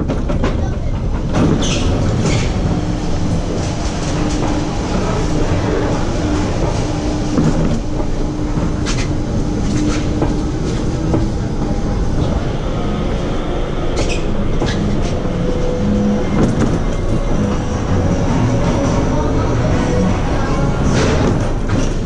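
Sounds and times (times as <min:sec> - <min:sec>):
coaster wheels rumbling on track: 0:00.0 - 0:22.0.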